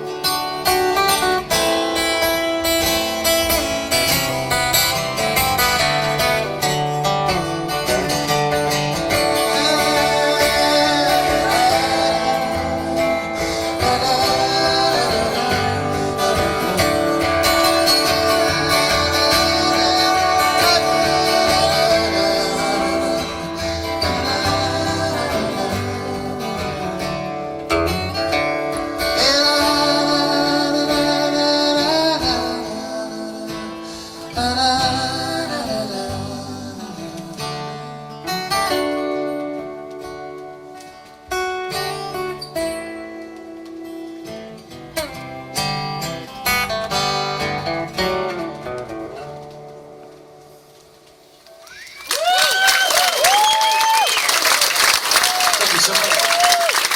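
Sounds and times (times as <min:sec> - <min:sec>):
live band with guitars: 0:00.0 - 0:56.9.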